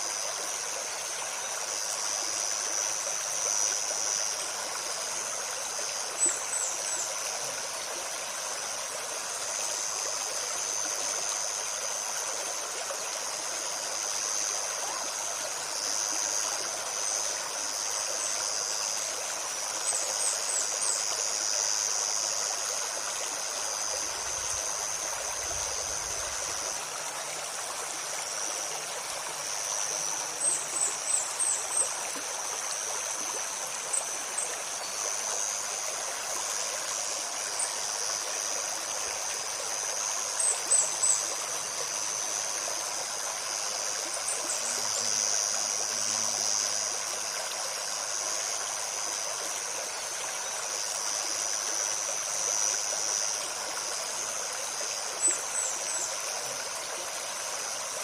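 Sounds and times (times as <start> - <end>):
high insect drone: 0.0 - 58.0
stream flowing: 0.0 - 58.0.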